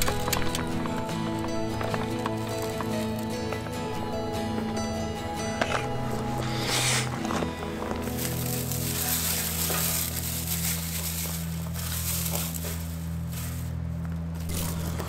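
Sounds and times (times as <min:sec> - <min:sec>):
dry grass rustling and crunching: 0:00.0 - 0:15.0.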